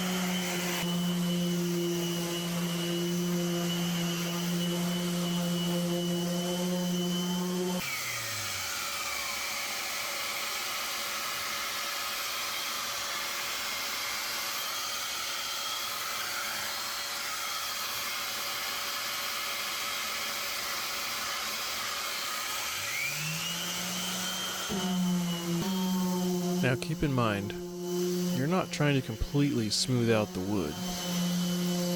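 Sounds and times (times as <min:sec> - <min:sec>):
sander motor whine: 0:00.0 - 0:31.9.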